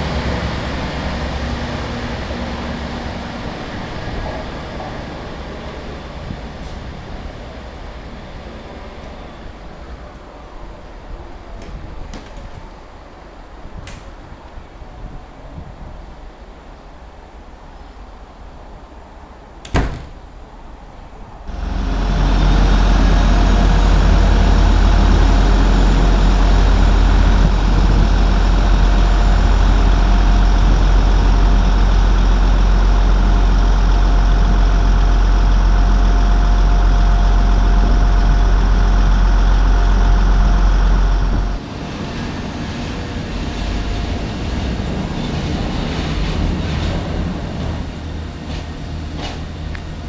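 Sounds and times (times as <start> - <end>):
diesel train engine rumbling: 0.0 - 50.0.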